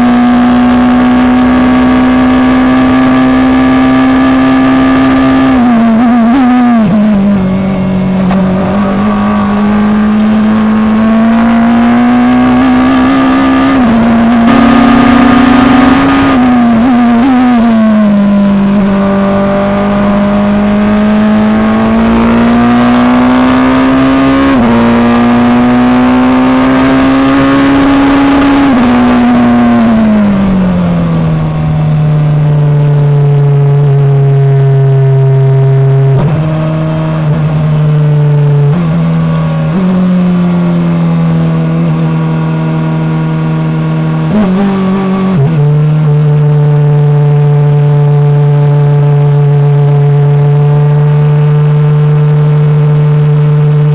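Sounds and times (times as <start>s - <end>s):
racing car engine: 0.0s - 53.9s.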